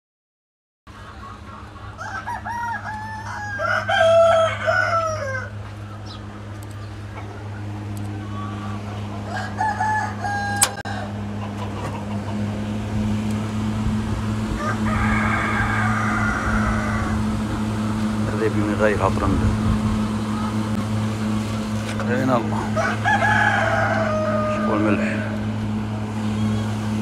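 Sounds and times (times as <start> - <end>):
roosters crowing: 0.9 - 27.0
steady low hum: 0.9 - 27.0.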